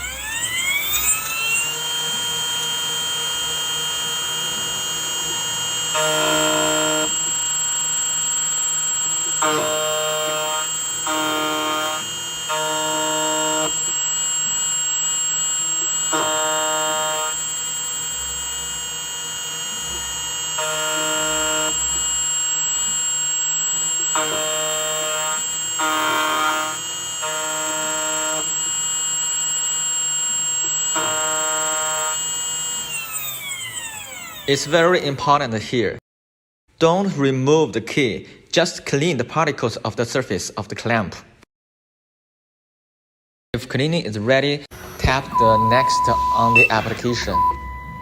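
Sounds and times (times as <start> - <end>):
short pitched motor tones: 0.0 - 35.2, 44.7 - 48.0
high whine of cutter spindle: 0.0 - 35.4, 44.7 - 48.0.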